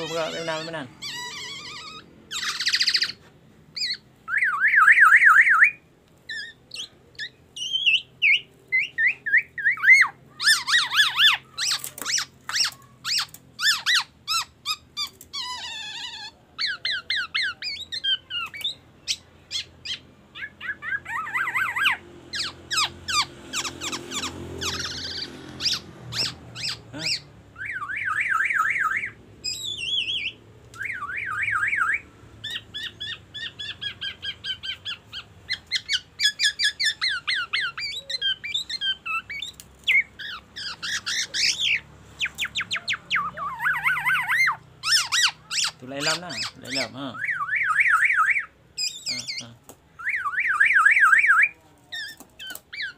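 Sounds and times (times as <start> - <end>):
bird singing trills and whistles: 0.0 - 52.9.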